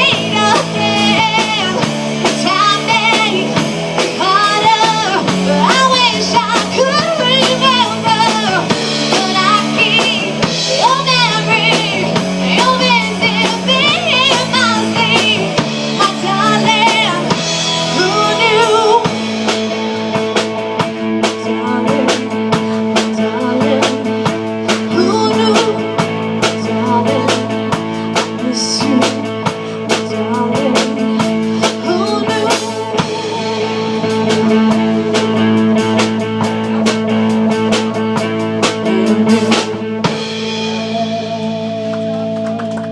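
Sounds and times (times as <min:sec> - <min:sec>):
person singing: 0:00.0 - 0:19.1, 0:21.2 - 0:42.0
rock band playing: 0:00.0 - 0:42.9.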